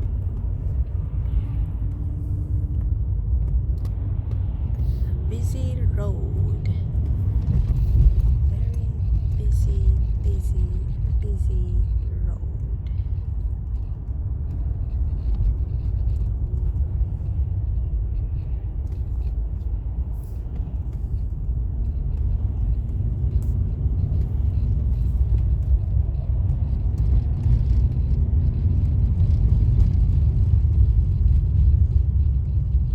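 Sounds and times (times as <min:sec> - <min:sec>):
car engine and tyres rumbling: 0:00.0 - 0:32.9.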